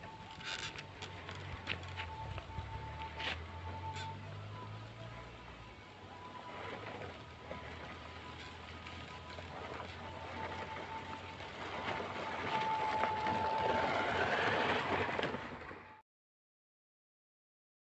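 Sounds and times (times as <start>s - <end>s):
tyres crackling on sand: 0.0s - 15.8s.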